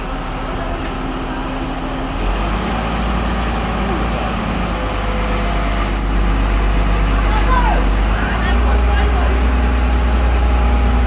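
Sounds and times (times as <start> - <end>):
heavy diesel crane engine running: 0.0 - 11.0.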